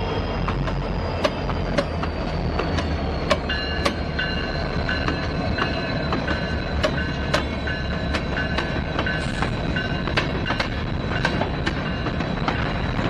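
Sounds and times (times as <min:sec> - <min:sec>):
diesel locomotive rumble: 0:00.0 - 0:13.0
high wheel squeal: 0:00.0 - 0:13.0
wheels clicking over rail joints: 0:00.4 - 0:13.0.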